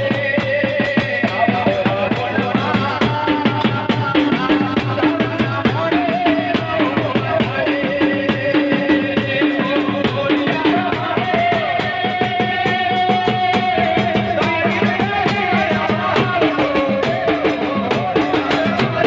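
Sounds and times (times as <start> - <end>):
fast drum beat: 0.0 - 19.0.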